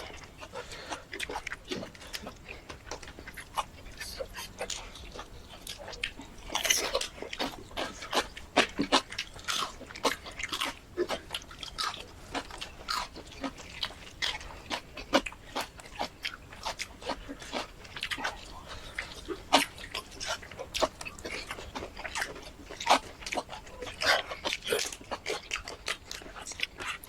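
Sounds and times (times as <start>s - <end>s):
chewing with wet smacks: 0.0s - 27.0s.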